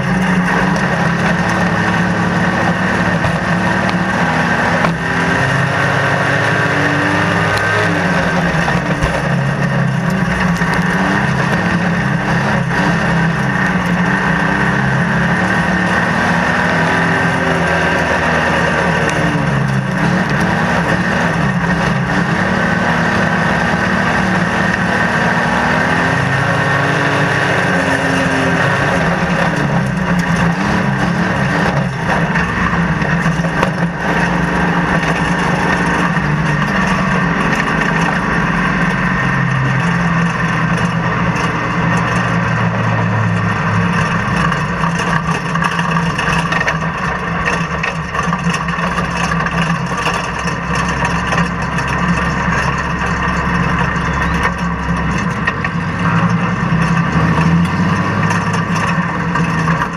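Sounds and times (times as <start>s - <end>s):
racing car engine from inside: 0.0s - 59.9s.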